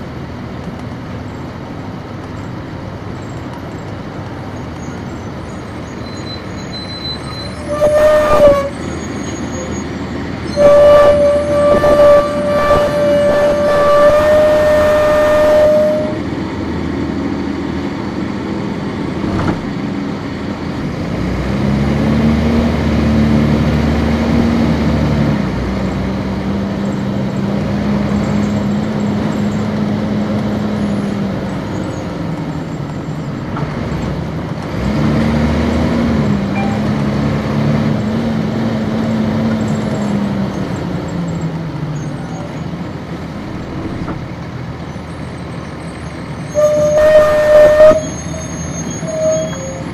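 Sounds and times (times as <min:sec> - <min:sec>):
bus diesel engine: 0:00.0 - 0:49.9
road noise: 0:00.0 - 0:49.9.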